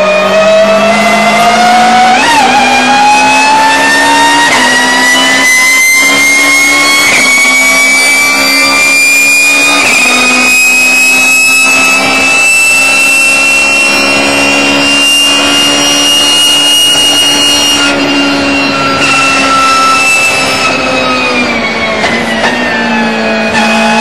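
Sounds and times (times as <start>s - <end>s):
race car engine at high revs: 0.0s - 24.0s.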